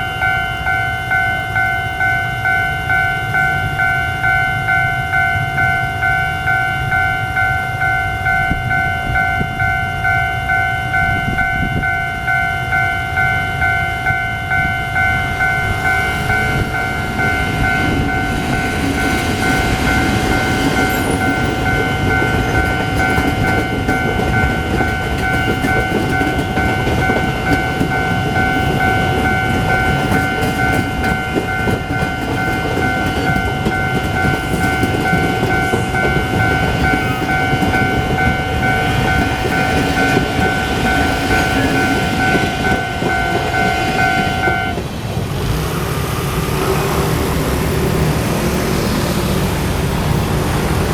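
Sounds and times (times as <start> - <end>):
level crossing two-tone alarm: 0.0 - 44.8
train rumbling through crossing: 0.0 - 50.9.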